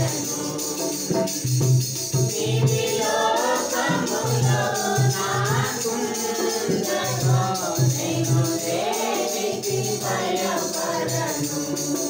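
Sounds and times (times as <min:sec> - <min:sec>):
congregation singing worship song: 0:00.0 - 0:12.0
tambourine jingling: 0:00.0 - 0:12.0.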